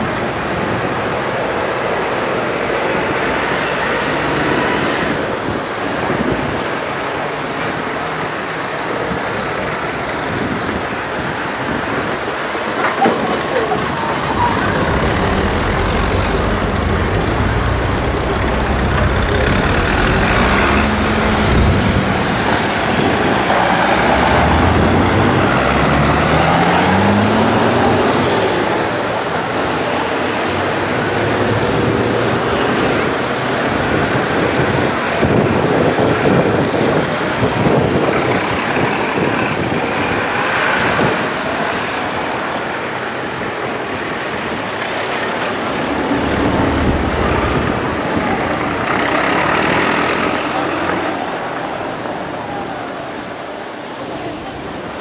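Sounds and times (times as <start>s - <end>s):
tractor engines driving past: 0.0s - 55.0s.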